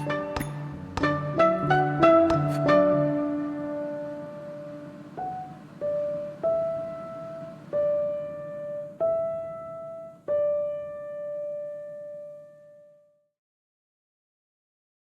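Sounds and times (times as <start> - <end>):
slow piano melody: 0.0 - 13.2.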